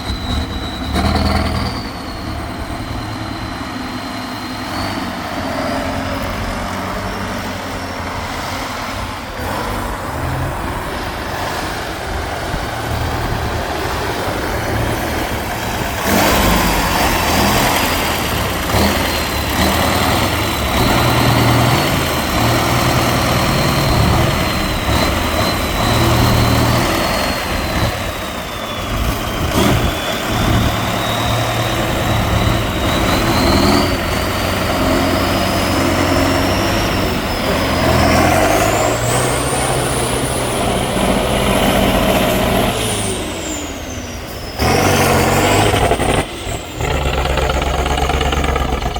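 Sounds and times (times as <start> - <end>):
diesel truck engine revving: 0.0 - 48.9.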